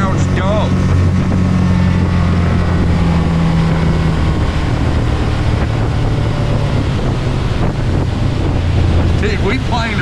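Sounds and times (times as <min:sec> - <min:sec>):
outboard motor running fast: 0:00.0 - 0:10.0
wind and water rushing: 0:00.0 - 0:10.0.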